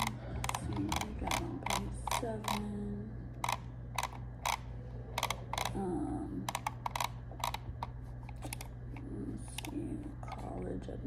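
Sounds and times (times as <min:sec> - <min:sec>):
computer mouse clicks: 0:00.0 - 0:02.7, 0:03.4 - 0:05.8, 0:06.4 - 0:10.5
steady low hum: 0:00.0 - 0:11.0.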